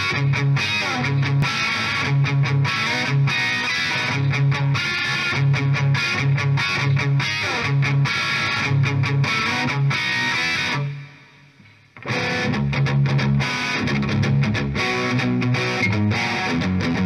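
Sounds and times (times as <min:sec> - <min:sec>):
distorted electric guitar riff: 0:00.0 - 0:17.0.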